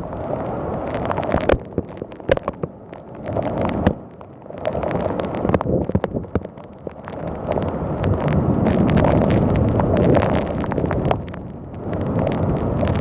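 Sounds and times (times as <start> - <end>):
heavy rain: 0.0 - 13.0
wind gusting against microphone: 0.0 - 13.0
sharp cracks and pops: 0.8 - 13.0.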